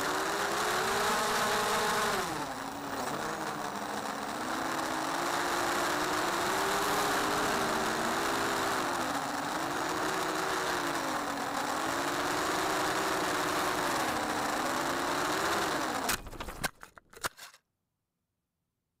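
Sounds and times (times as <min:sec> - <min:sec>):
model aircraft motor whining: 0:00.0 - 0:16.6.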